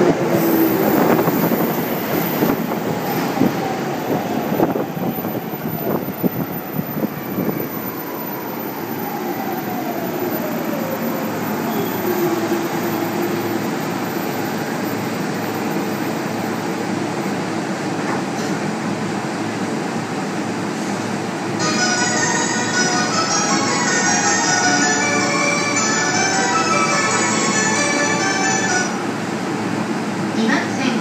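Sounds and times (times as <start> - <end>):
train humming at standstill: 0.0 - 31.0.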